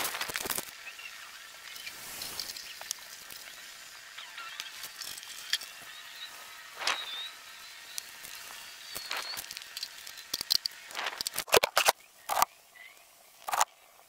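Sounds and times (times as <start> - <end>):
steady high hiss: 0.0 - 14.0
thin chirps: 0.4 - 13.6.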